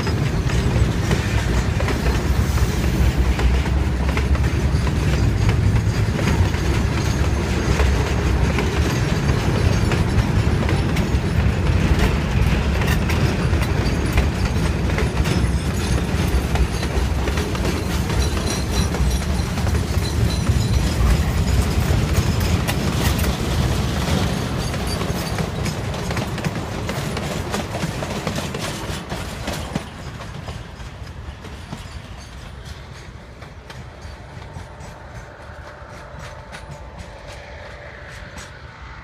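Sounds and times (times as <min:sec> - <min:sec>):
freight train wheels clacking: 0:00.0 - 0:39.0.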